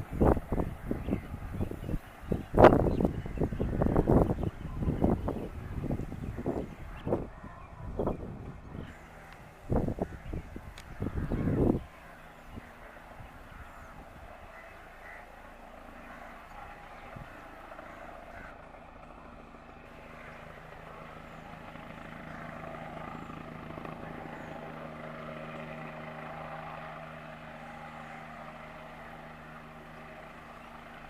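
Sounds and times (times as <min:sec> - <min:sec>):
distant helicopter hum: 0:00.0 - 0:31.0.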